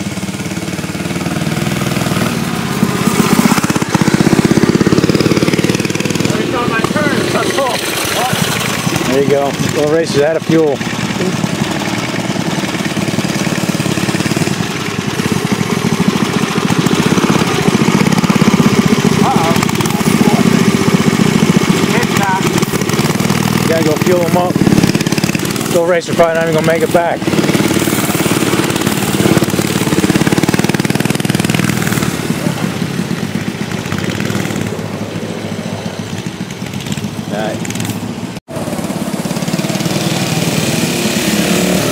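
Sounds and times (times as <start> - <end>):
small bike engine running: 0.0 - 41.9.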